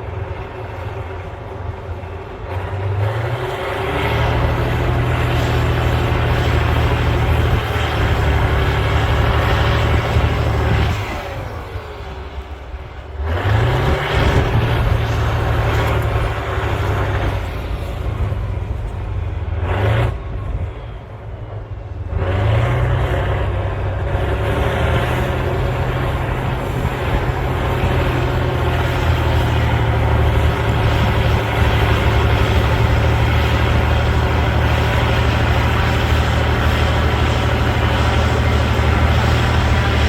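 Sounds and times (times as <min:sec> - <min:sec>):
bulldozer diesel engine revving: 0:00.0 - 0:40.0.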